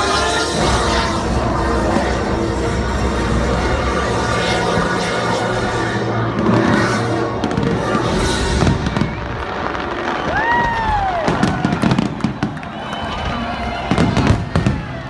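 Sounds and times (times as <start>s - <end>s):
firework whistling: 0.0s - 15.0s
fireworks crackling and banging: 0.0s - 15.0s
loud music: 0.0s - 15.0s.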